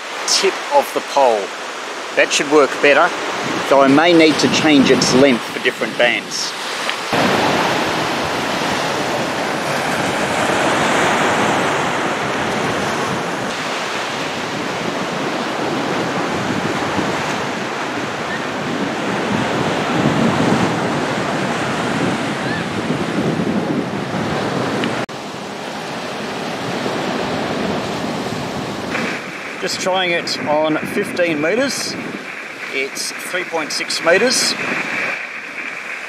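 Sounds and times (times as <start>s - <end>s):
ocean surf washing onto beach: 0.0s - 36.0s
wind: 0.0s - 36.0s.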